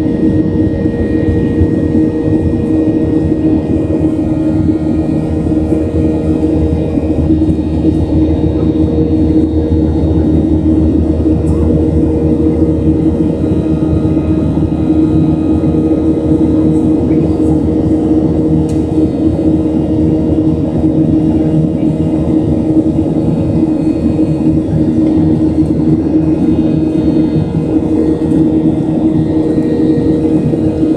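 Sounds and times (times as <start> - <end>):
airplane cabin drone: 0.0 - 30.9.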